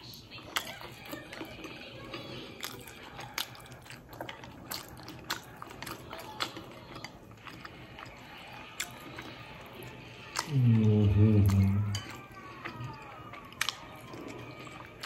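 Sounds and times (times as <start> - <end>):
person chewing noodles: 0.0 - 15.0.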